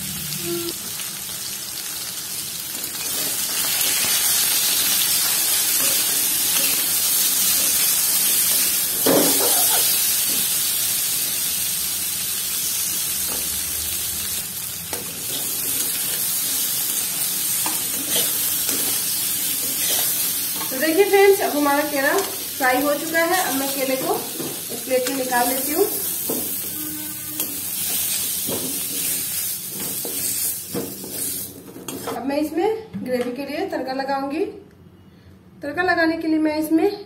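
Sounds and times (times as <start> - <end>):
banana pieces sizzling in oil: 0.0 - 32.2.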